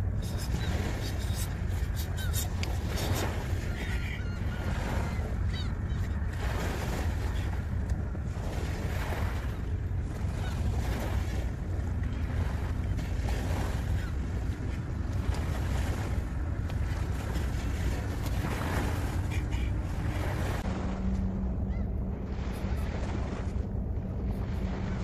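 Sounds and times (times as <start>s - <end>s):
small waves washing ashore: 0.0s - 25.0s
wind rumble on microphone: 0.0s - 25.0s.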